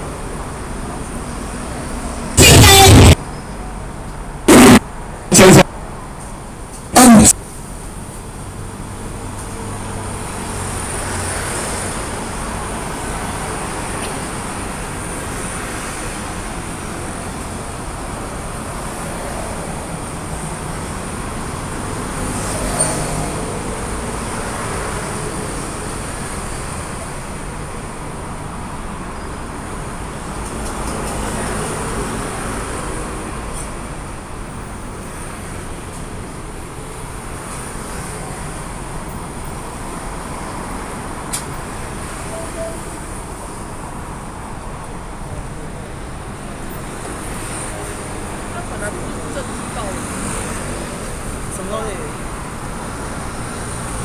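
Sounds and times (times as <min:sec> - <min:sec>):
road traffic noise: 0:00.0 - 0:54.0
vehicles passing: 0:00.1 - 0:54.0.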